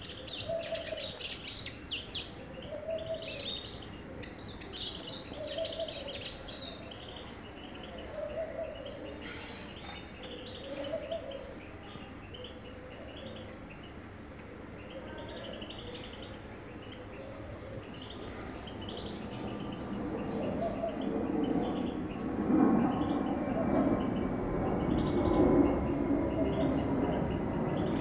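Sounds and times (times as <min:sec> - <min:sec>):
bird twittering song: 0:00.0 - 0:28.0.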